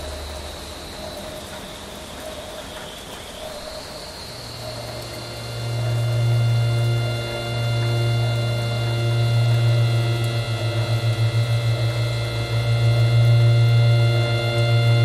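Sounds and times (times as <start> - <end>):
ambient drone music: 0.0 - 15.0.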